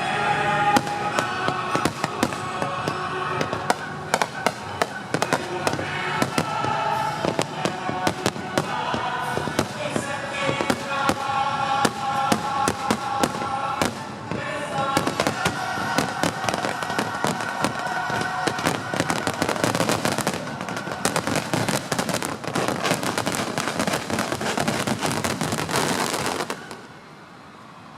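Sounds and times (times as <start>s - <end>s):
music with held notes: 0.0s - 26.8s
fireworks bangs and crackles: 0.0s - 27.0s.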